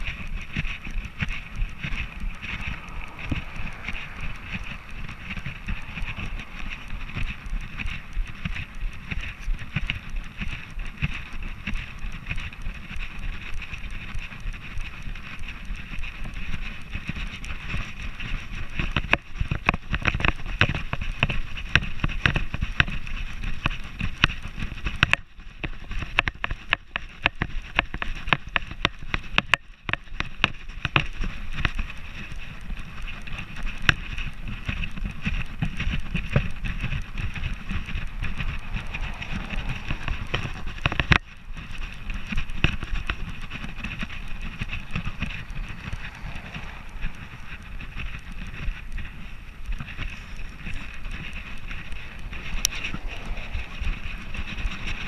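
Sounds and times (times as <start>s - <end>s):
camera knocking and rattling: 0.0s - 55.0s
wind rumble on microphone: 0.0s - 55.0s.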